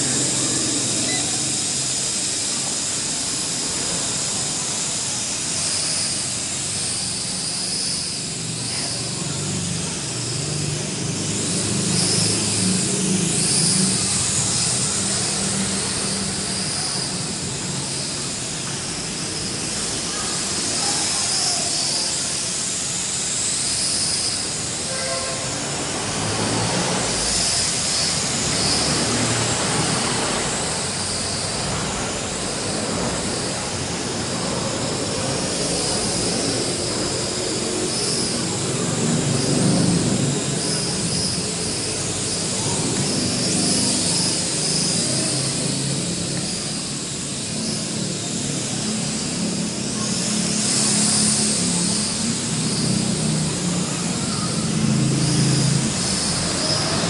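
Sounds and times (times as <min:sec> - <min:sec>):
quadcopter propellers whirring: 0:00.0 - 0:57.0.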